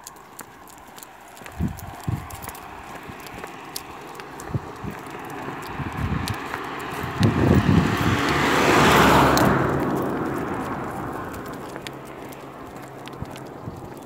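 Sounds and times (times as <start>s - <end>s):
car driving past: 2.0s - 14.0s.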